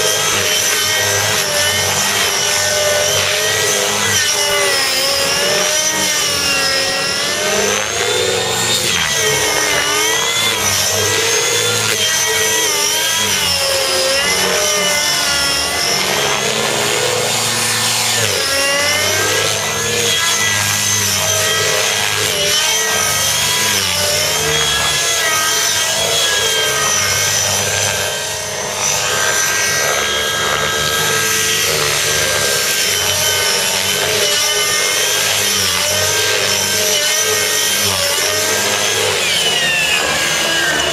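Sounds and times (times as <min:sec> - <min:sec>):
rc helicopter engine and rotor: 0:00.0 - 0:40.9.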